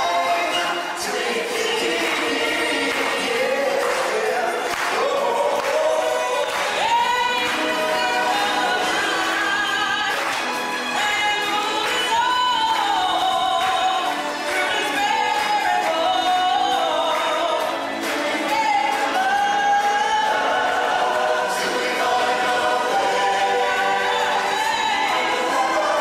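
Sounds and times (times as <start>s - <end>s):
chorus singing: 0.0s - 26.0s
stage show music: 0.0s - 26.0s.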